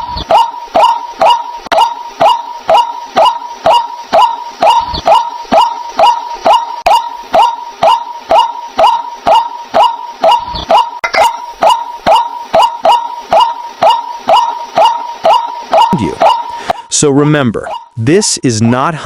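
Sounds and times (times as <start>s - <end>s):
bird calling: 0.0s - 16.9s, 17.6s - 18.0s.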